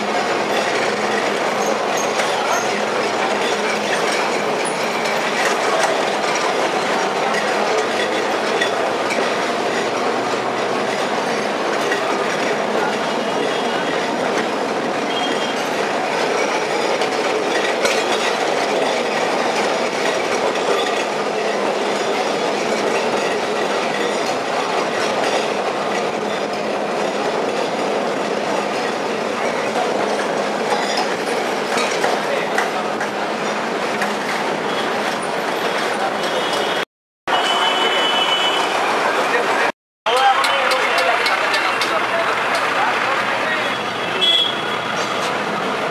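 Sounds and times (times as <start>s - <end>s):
tram wheels rumbling: 0.0s - 45.9s.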